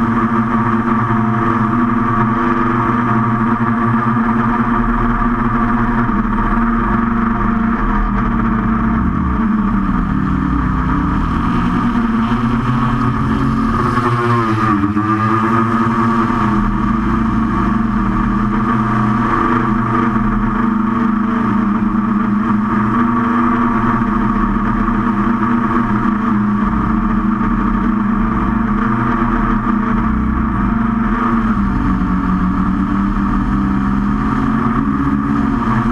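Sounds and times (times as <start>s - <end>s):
quadcopter propellers buzzing: 0.0s - 35.9s.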